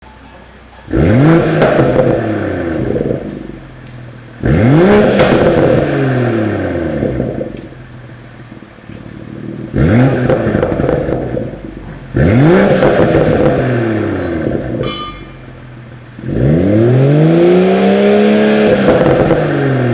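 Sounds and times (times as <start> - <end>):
car engine revving: 0.7 - 19.9
exhaust pops and crackles: 1.0 - 16.4, 18.6 - 19.9.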